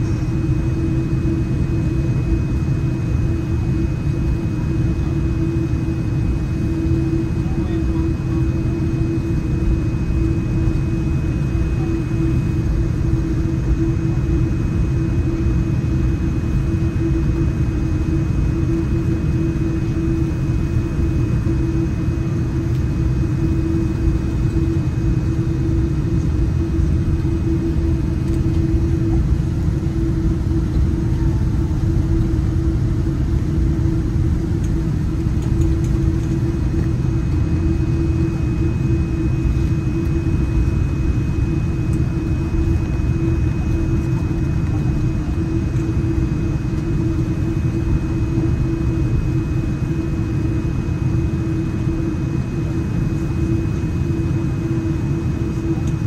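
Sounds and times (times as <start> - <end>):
aircraft cabin rumble and hum: 0.0 - 56.0.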